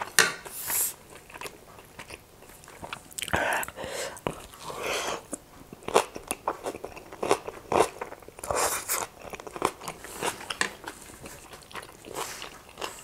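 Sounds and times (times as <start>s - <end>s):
slurping and chewing noodles: 0.5s - 13.0s.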